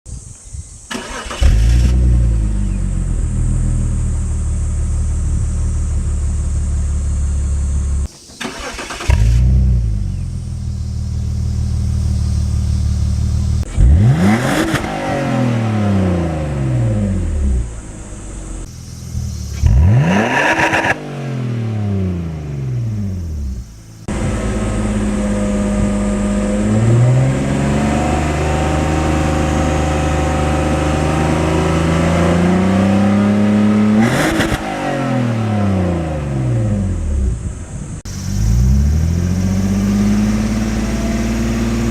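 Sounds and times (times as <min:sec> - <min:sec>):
car engine revving: 0:00.9 - 0:41.9
car engine starting and idling: 0:00.9 - 0:41.9.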